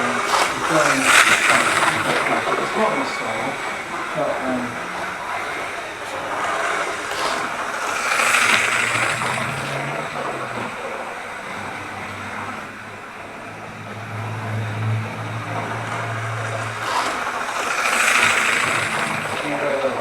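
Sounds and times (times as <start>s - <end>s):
model train motor hum: 0.0s - 20.0s
wheels rattling over rails: 0.0s - 20.0s.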